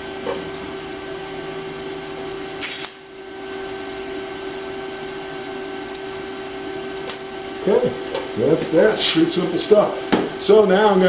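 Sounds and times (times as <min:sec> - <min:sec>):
shop fan: 0:00.0 - 0:11.0
welder hum: 0:00.0 - 0:11.0
welding arc buzzing: 0:00.0 - 0:11.0.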